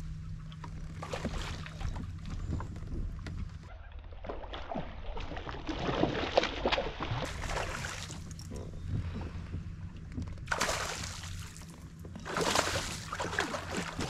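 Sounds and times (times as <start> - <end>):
steady low hum: 0.0 - 14.0
water lapping against a kayak hull: 0.0 - 14.0.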